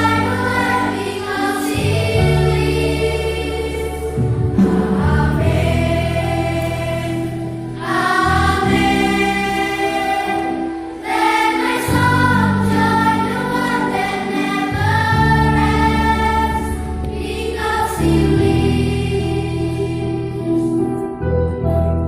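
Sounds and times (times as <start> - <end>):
children's choir singing: 0.0 - 21.0
low accompaniment notes: 0.0 - 22.0.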